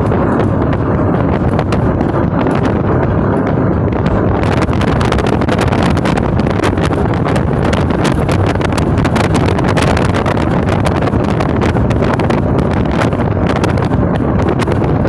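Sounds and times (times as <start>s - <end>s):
jet boat engine and water rush: 0.0s - 15.0s
wind buffeting microphone: 0.0s - 15.0s.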